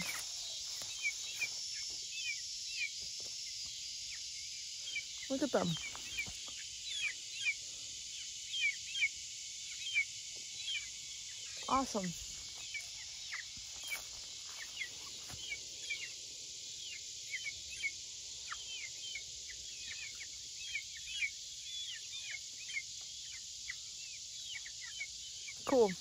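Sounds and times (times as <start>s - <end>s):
chicks peeping: 0.0s - 26.0s
insect chorus: 0.0s - 26.0s.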